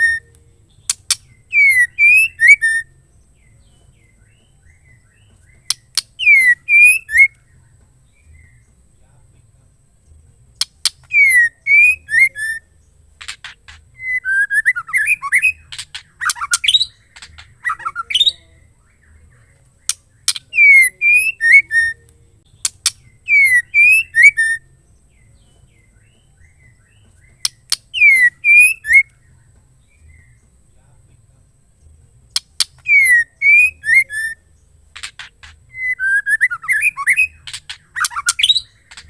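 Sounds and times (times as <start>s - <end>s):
bird calling with clicks and whistles: 0.0s - 3.0s, 3.6s - 8.8s, 10.6s - 30.5s, 32.3s - 39.0s.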